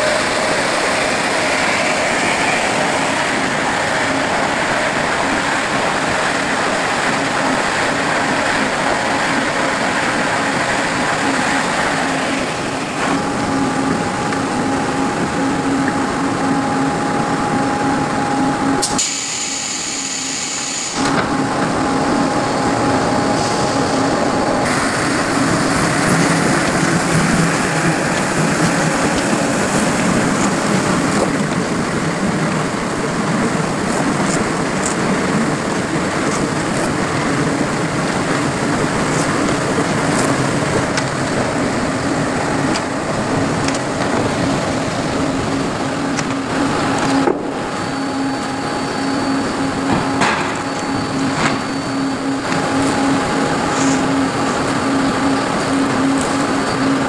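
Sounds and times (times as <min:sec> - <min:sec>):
machinery running loudly: 0:00.0 - 0:57.0
steady machine hum: 0:00.0 - 0:57.0.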